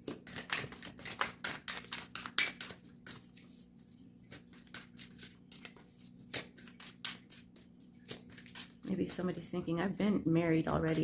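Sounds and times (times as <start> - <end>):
cards shuffling: 0.0 - 9.2, 9.9 - 11.0
faint steady hum: 0.0 - 11.0.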